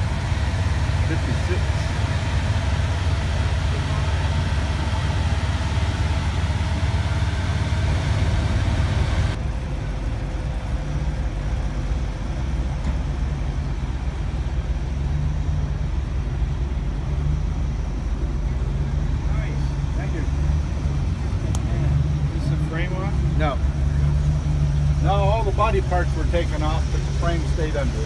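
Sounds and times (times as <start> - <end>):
parking lot noise: 0.0 - 28.0
vehicle engine idling: 0.0 - 28.0.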